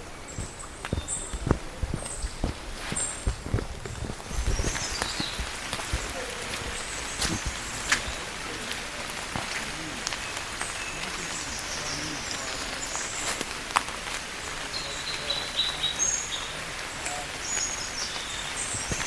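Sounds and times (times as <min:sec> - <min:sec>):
birds chirping: 0:00.0 - 0:19.0
steady hiss: 0:00.0 - 0:19.0.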